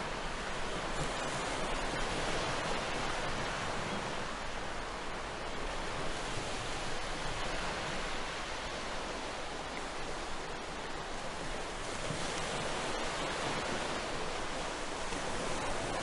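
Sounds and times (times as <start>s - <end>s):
sea noise: 0.0s - 16.0s
wind: 0.0s - 16.0s.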